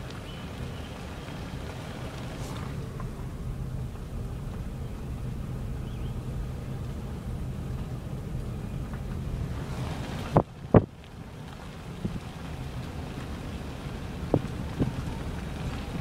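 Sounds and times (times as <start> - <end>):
car driving interior hum: 0.0 - 16.0.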